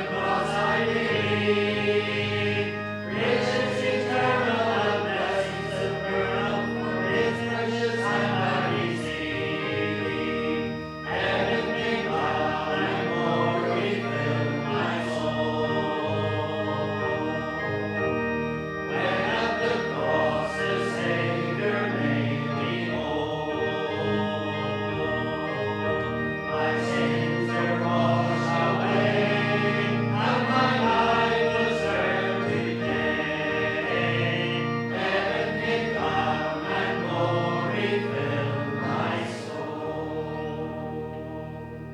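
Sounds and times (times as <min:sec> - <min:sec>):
congregation singing a hymn: 0:00.0 - 0:41.9
musical accompaniment: 0:00.0 - 0:41.9.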